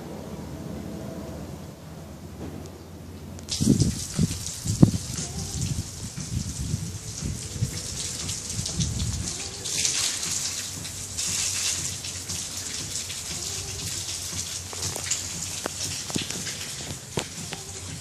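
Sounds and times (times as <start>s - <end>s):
water hissing and splashing: 3.5s - 18.0s.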